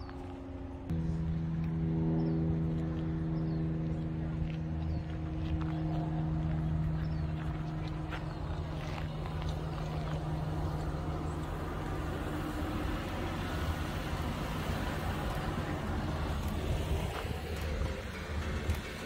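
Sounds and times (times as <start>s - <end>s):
continuous low rumble: 0.0s - 19.0s
tractor engine running: 0.0s - 19.0s.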